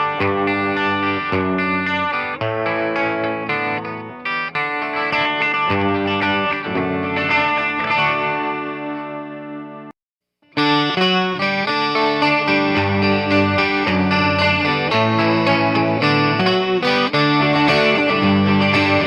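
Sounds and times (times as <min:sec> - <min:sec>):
electric guitar strumming chords: 0:00.0 - 0:09.9, 0:10.5 - 0:19.0.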